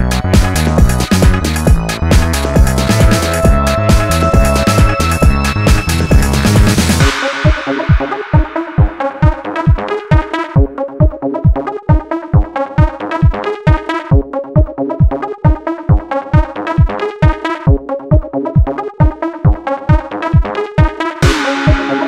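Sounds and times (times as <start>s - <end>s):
electronic dance music: 0.0s - 22.0s.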